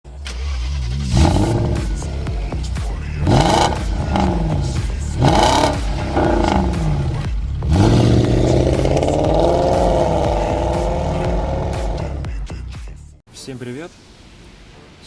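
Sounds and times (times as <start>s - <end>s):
car engine revving: 0.1s - 12.3s.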